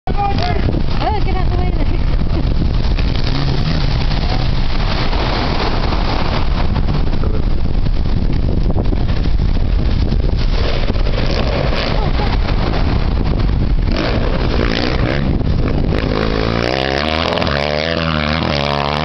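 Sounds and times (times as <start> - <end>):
wind buffeting microphone: 0.0 - 19.0
waves breaking on shingle: 2.4 - 19.0.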